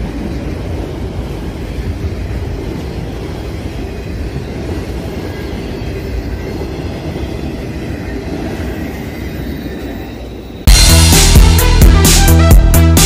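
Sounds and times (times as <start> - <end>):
freight train wheels on track: 0.0 - 12.8.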